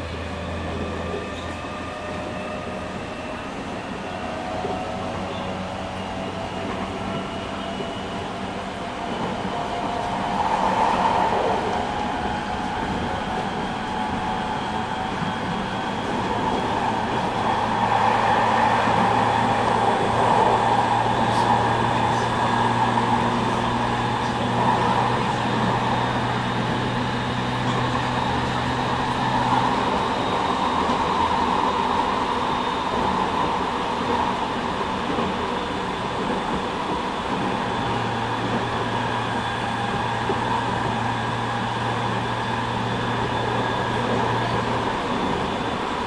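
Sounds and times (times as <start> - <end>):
train wheels roaring on rails: 0.0 - 46.0.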